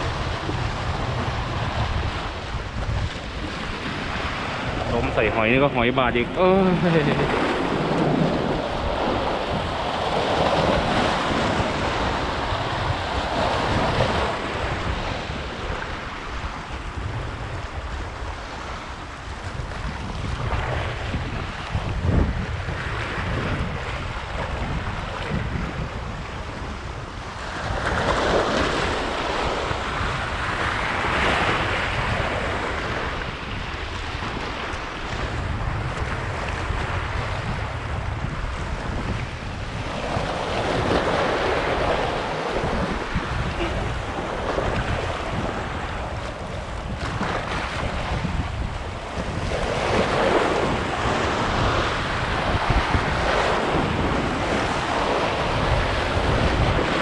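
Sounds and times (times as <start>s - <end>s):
sea waves washing in: 0.0s - 57.0s
wind rumble on microphone: 0.0s - 57.0s.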